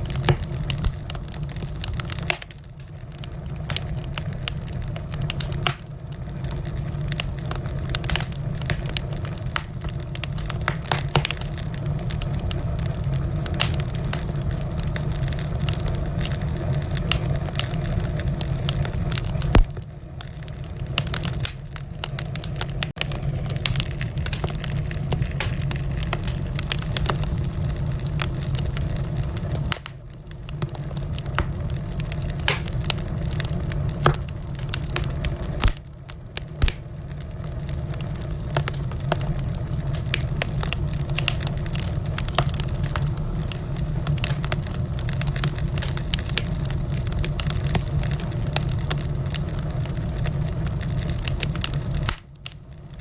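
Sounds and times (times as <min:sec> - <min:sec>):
fire low rumble: 0:00.0 - 0:53.0
wood fire crackling: 0:00.0 - 0:53.0.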